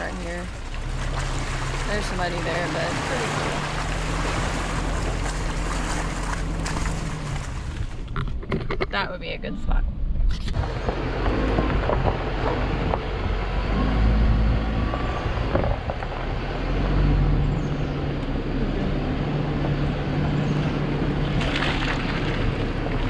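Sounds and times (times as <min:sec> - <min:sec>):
low engine hum: 0:00.0 - 0:23.0
tyre and road noise: 0:00.0 - 0:23.0.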